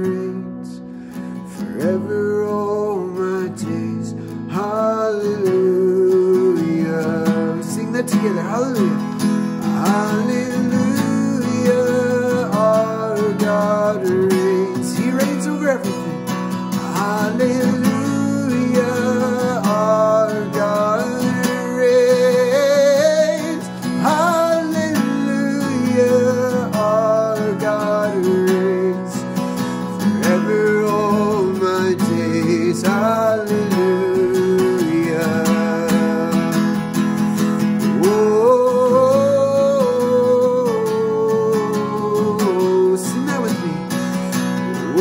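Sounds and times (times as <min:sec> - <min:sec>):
acoustic guitar strumming: 0:00.0 - 0:45.0
man singing: 0:00.0 - 0:45.0.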